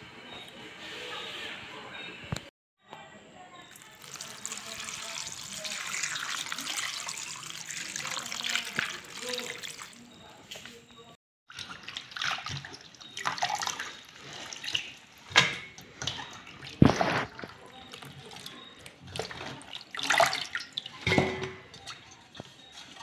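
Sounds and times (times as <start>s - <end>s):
water sloshing in pot: 3.7s - 10.6s, 11.5s - 23.0s.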